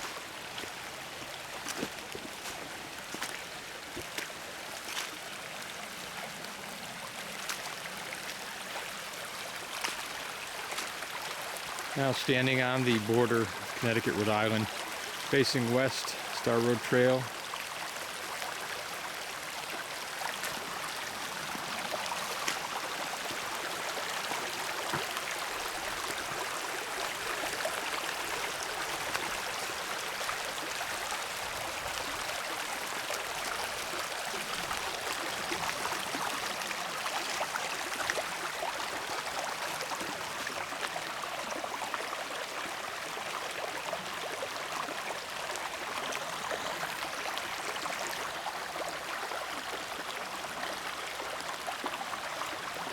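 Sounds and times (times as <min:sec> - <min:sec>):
brook water running: 0:00.0 - 0:52.9.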